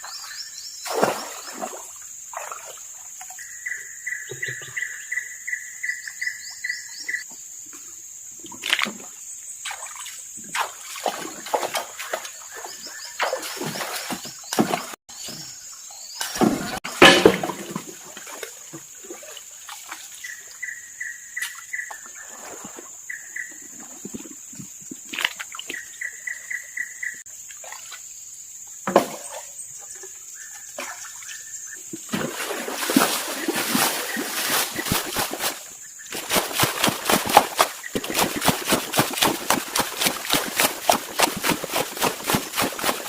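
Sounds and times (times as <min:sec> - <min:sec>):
water splashing and sloshing: 0:00.8 - 0:03.6, 0:08.4 - 0:28.2, 0:28.8 - 0:43.0.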